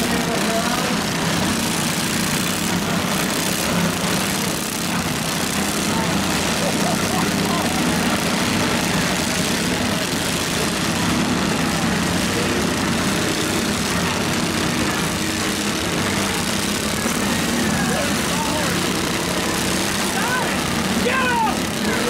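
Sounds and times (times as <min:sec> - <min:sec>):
many mower engines running: 0:00.0 - 0:22.0.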